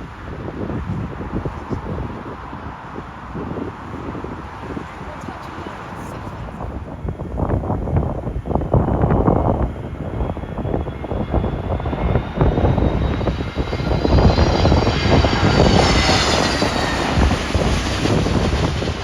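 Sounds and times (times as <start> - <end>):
jet airliner passing overhead: 0.0 - 19.0
wind buffeting microphone: 0.0 - 19.0.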